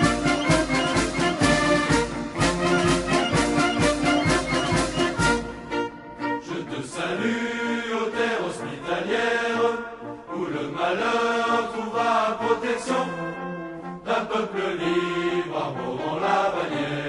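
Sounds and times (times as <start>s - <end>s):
choir singing held notes: 0.0s - 17.0s.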